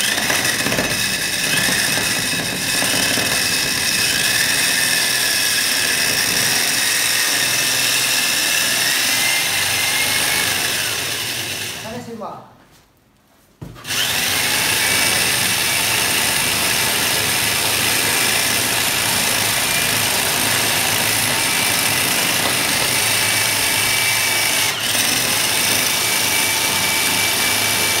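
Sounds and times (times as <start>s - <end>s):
core drill grinding into wall: 0.0s - 11.9s, 13.8s - 28.0s.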